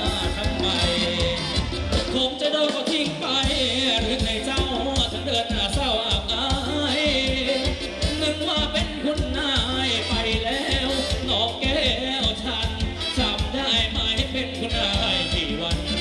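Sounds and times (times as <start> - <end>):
live band dance music: 0.0 - 16.0
person singing: 0.0 - 16.0
steady drum beat: 0.0 - 16.0.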